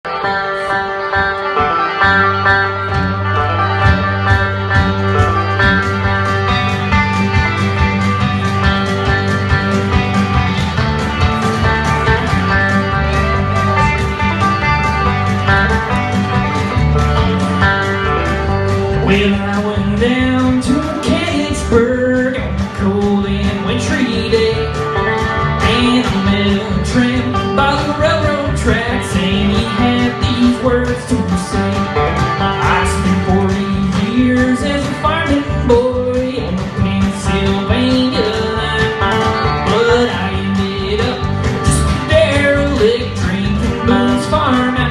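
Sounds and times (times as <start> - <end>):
live country band playing: 0.0 - 44.9
strummed guitars: 0.0 - 44.9.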